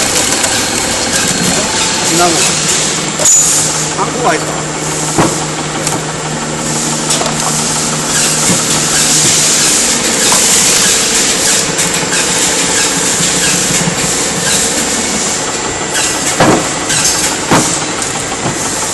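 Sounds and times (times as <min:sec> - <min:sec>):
wood splitter motor hum: 0:00.0 - 0:18.9.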